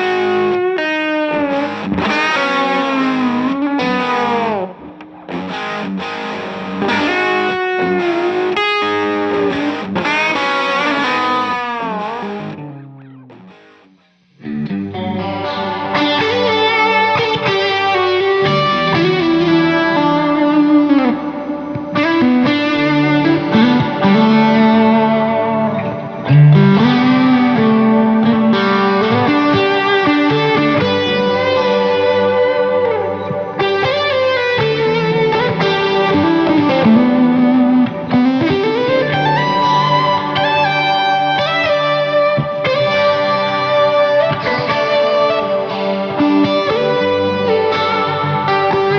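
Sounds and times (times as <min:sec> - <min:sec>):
fuzz-distorted electric guitar: 0:00.0 - 0:48.9.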